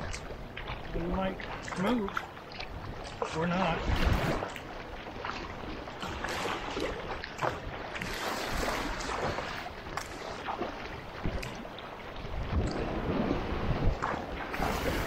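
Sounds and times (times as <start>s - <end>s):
paddle splashing into water: 0.0s - 15.0s
water rushing along hull: 0.0s - 15.0s.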